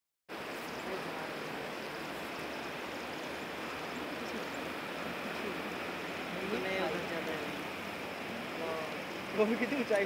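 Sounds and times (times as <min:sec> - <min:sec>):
stream water rushing: 0:00.3 - 0:10.0.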